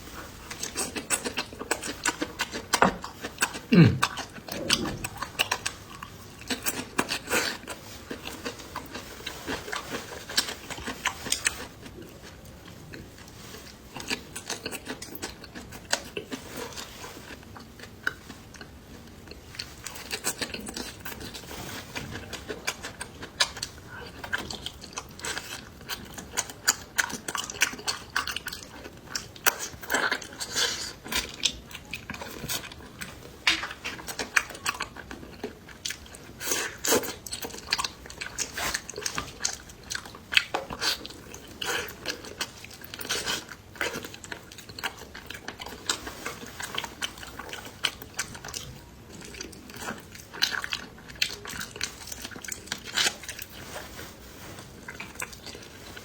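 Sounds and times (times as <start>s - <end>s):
chewing and crunching bones: 0.4s - 56.0s.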